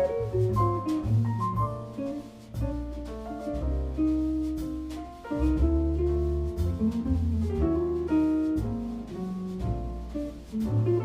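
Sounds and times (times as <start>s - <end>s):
double bass notes: 0.0s - 11.0s
jazz guitar notes: 0.0s - 11.0s.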